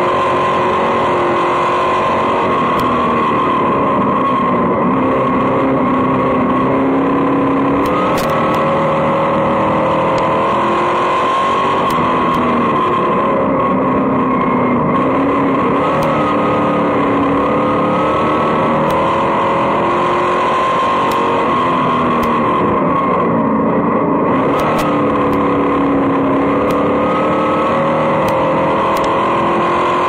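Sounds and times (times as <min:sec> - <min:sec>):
race car engine at speed: 0:00.0 - 0:30.0.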